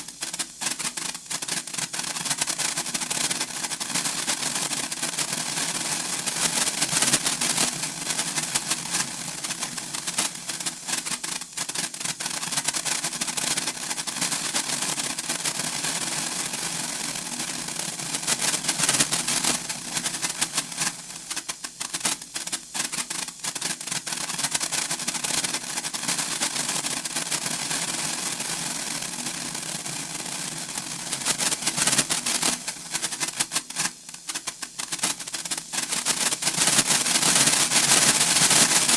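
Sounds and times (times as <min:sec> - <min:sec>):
sparkler crackling: 0:00.0 - 0:38.9.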